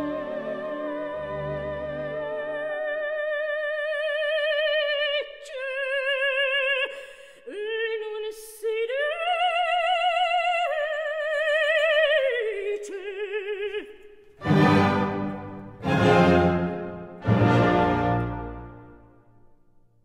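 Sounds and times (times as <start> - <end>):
operatic soprano singing: 0.0 - 18.9.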